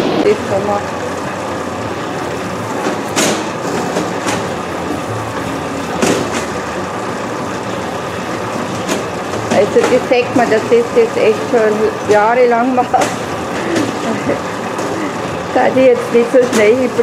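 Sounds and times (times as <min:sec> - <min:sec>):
bakery machinery drone: 0:00.0 - 0:17.0.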